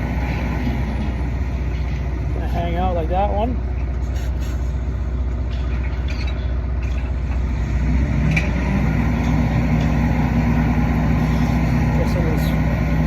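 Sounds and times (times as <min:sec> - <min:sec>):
engine idling drone: 0:00.0 - 0:13.0.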